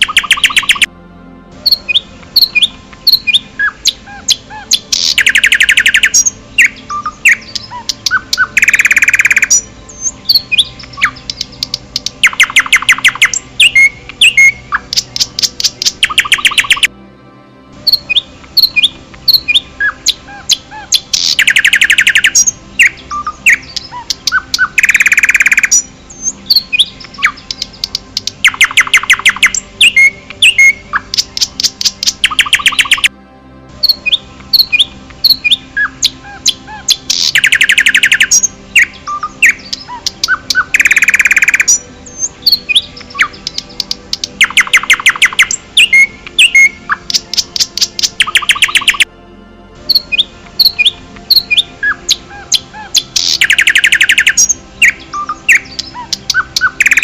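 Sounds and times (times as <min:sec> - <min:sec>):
fast rattling bird trill: 0:00.0 - 0:00.9, 0:01.7 - 0:16.9, 0:17.9 - 0:33.1, 0:34.6 - 0:49.0, 0:49.9 - 0:57.0
songbirds chirping: 0:00.0 - 0:57.0.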